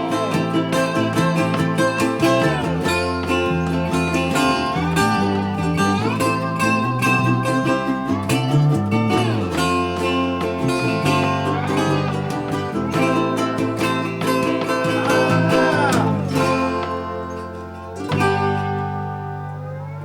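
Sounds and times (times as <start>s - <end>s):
plucked string music: 0.0s - 20.0s.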